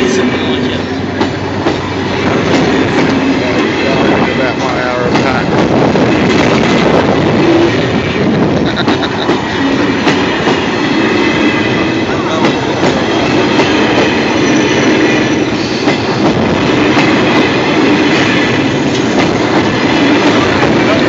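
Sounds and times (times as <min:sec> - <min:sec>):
train wheels clattering on rails: 0:00.0 - 0:21.0.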